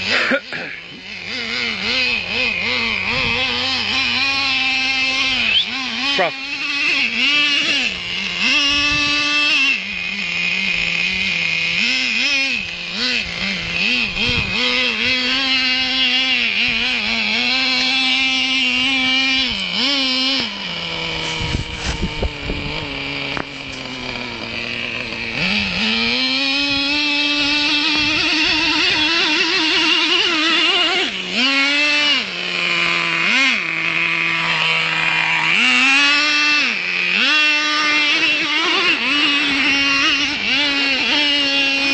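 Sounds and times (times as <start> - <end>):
small nitro engine revving: 0.0 - 41.9.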